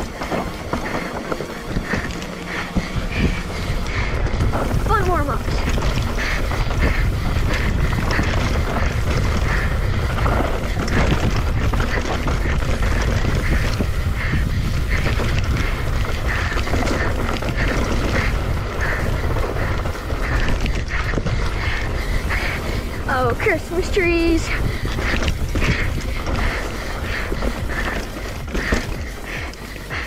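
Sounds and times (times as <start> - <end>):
bike rattling: 0.0 - 30.0
bike tyres crunching over stones: 0.0 - 30.0
wind buffeting microphone: 0.0 - 30.0.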